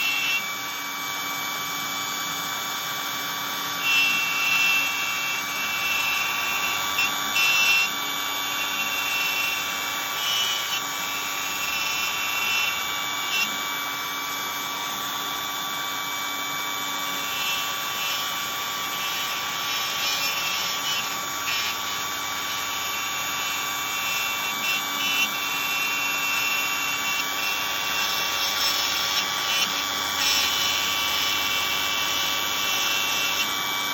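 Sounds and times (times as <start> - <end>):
cnc machine whirring: 0.0 - 33.9
router spindle high whine: 0.0 - 33.9.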